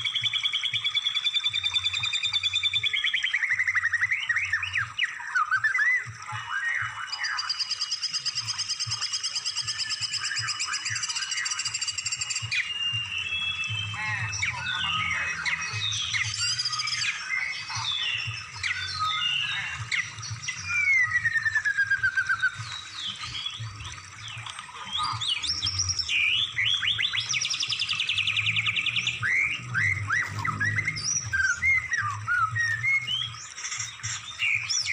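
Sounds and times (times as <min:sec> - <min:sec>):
songbird song: 0:00.0 - 0:34.9.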